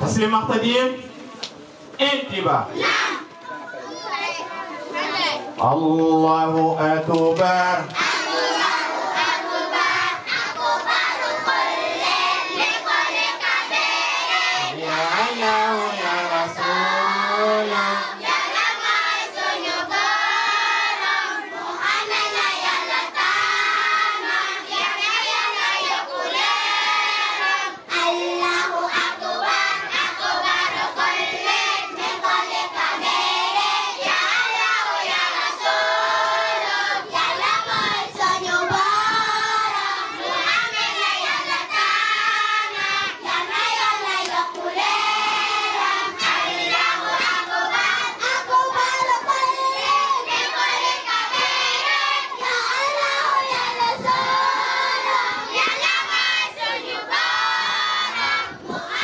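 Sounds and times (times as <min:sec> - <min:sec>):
children singing in chorus: 0:02.8 - 0:05.6, 0:07.9 - 0:59.0.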